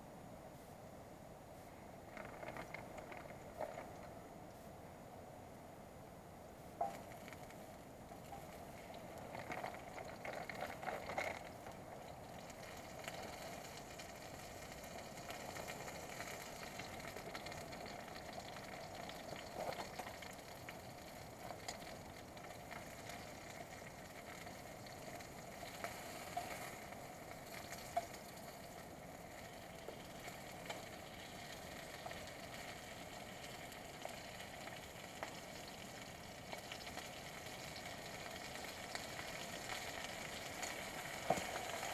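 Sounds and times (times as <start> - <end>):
campfire crackling and popping: 2.0 - 4.2, 6.8 - 41.9.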